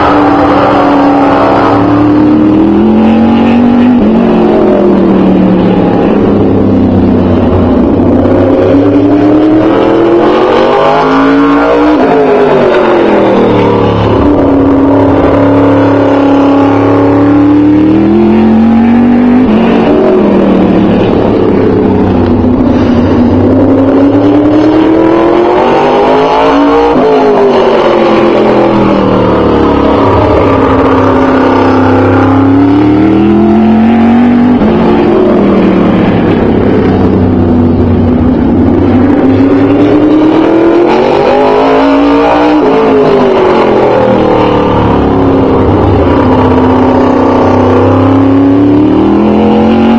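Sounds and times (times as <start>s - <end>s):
race car engine: 0.0s - 49.9s.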